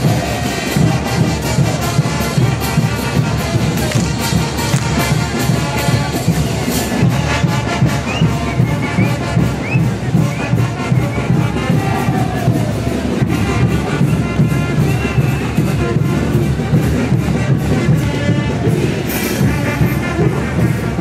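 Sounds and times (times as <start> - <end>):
brass band playing dance music: 0.0 - 21.0
steady drumbeat: 0.0 - 21.0.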